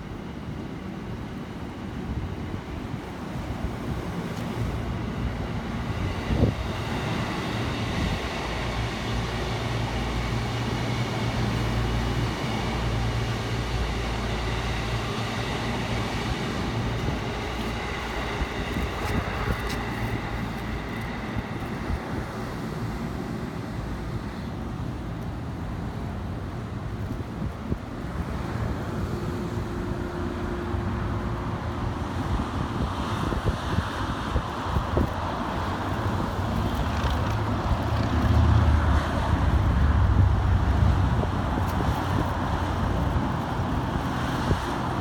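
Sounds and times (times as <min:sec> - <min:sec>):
electric train rumbling past: 0:00.0 - 0:45.0.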